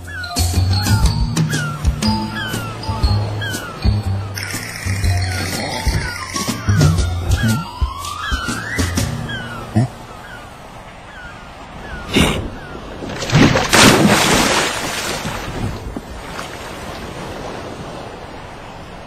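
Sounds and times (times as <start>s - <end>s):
rush of waves: 0.0s - 19.0s.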